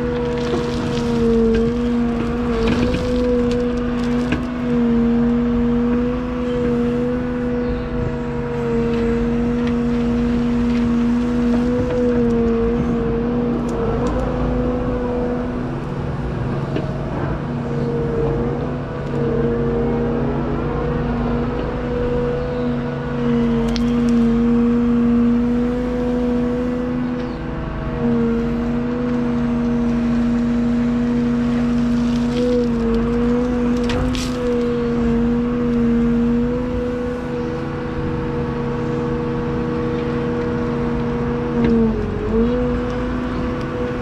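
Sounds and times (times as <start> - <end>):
excavator engine humming: 0.0 - 44.0.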